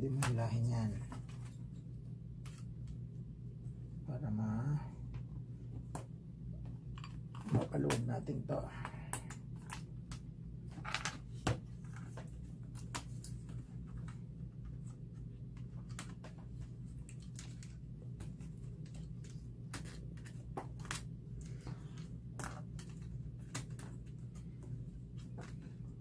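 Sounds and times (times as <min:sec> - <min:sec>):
clicks and rustles of handling: 0:00.0 - 0:03.0, 0:05.1 - 0:26.0
steady low hum: 0:00.0 - 0:26.0.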